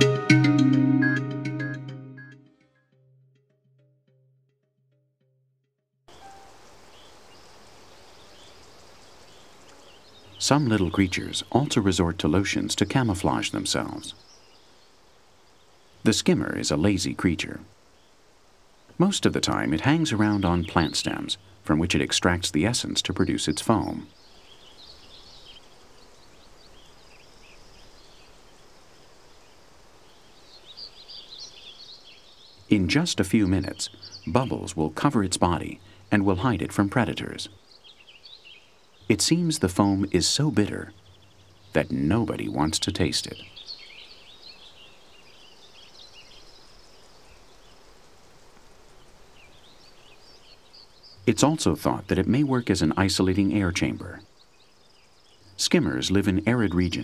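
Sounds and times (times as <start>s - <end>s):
low background hiss: 6.1s - 57.0s
small birds chirping: 6.1s - 57.0s.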